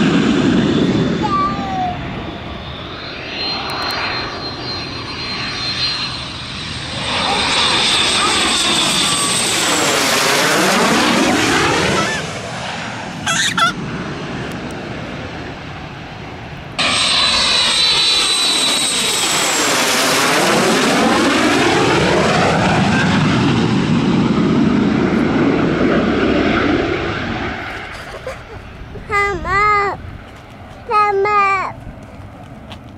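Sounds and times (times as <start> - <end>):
jets passing low overhead: 0.0 - 32.9.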